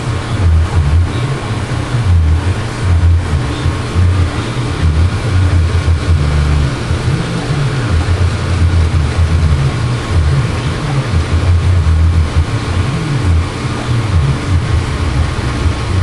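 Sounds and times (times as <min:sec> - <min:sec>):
air bubbling: 0:00.0 - 0:16.0
aquarium aerator humming: 0:00.0 - 0:16.0.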